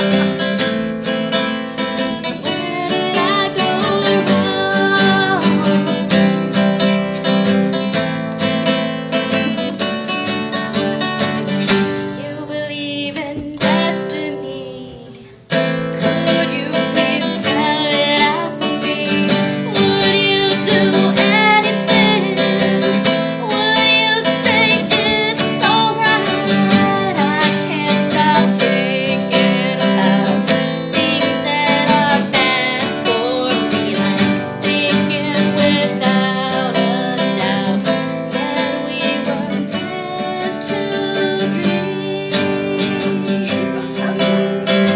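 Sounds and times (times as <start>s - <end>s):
acoustic guitar strumming: 0.0s - 44.9s
woman singing: 1.4s - 6.7s, 8.7s - 44.9s.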